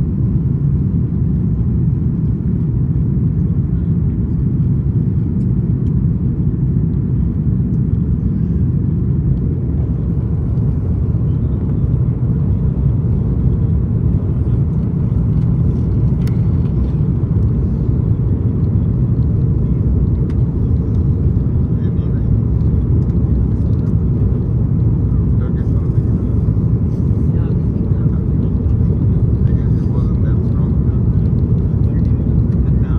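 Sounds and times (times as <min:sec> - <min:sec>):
airliner engines rumbling in cabin: 0:00.0 - 0:32.9.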